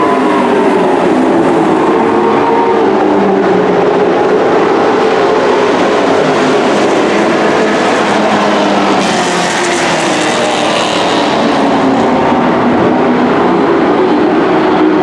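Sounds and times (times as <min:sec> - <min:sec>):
race truck engines droning: 0:00.0 - 0:15.0.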